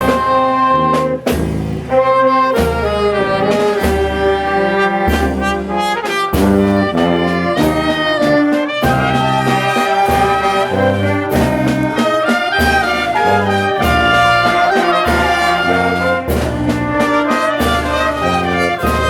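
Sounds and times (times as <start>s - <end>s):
brass band playing a march: 0.0s - 19.0s.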